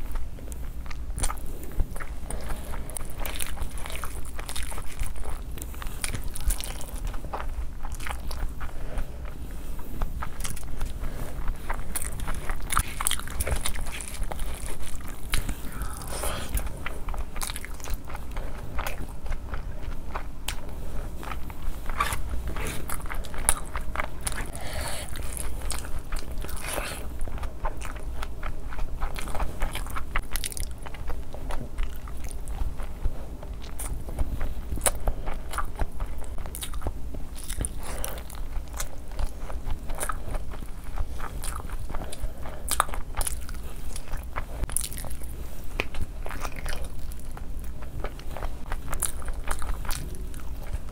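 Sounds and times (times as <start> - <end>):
chewing and biting: 0.0 - 50.9.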